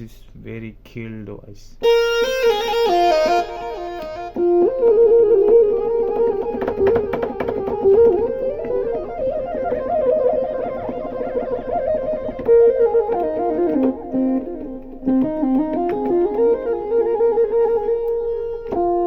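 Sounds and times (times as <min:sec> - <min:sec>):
keyboard playing a melody: 0:01.8 - 0:19.0.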